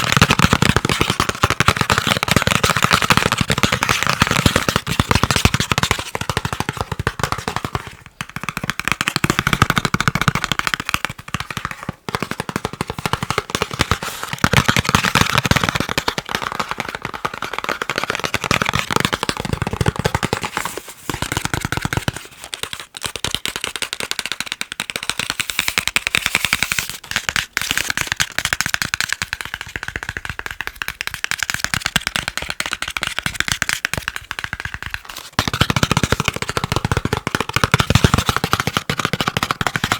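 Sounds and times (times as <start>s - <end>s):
rapid tapping on chocolate: 0.0s - 39.9s.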